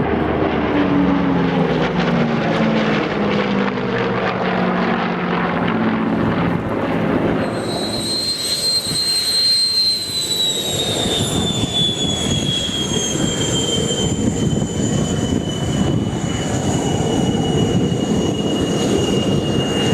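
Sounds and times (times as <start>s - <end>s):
turbine engine whine falling: 0.0s - 19.9s.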